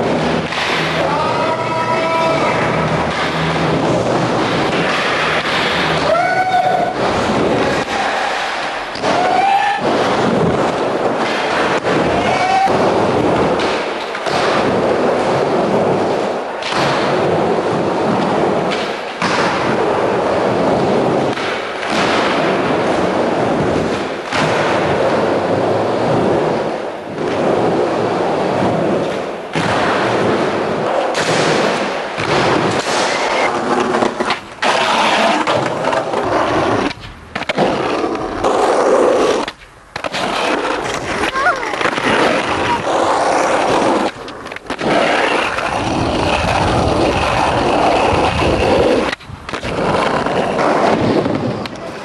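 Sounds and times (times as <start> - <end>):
skateboard popping and landing: 0.0 - 52.0
skateboard wheels rolling on pavement: 0.0 - 52.0.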